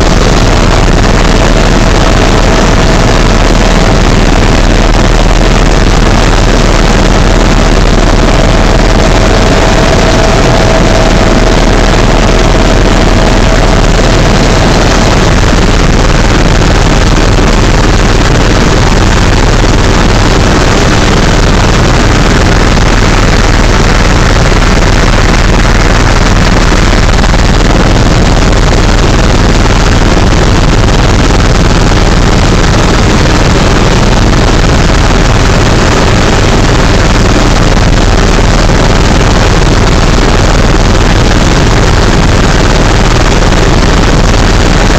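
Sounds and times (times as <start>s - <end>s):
helicopter engine and rotor noise: 0.0s - 44.9s
thin steady whine: 0.0s - 44.9s.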